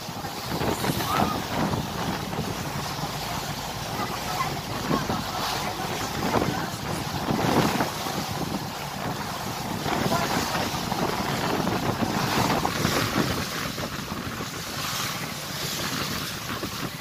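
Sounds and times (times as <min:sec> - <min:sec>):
water rushing: 0:00.0 - 0:17.0
wind gusting on microphone: 0:00.0 - 0:17.0.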